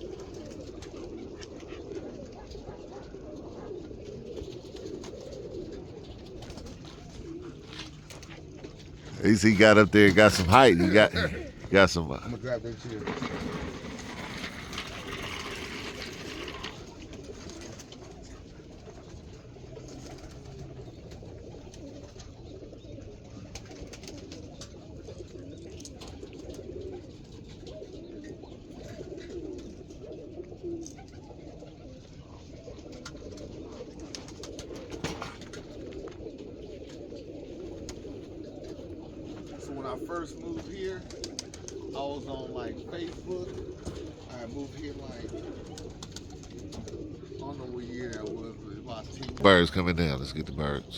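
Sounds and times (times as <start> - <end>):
pigeons cooing: 0.0 - 9.2, 11.3 - 49.4.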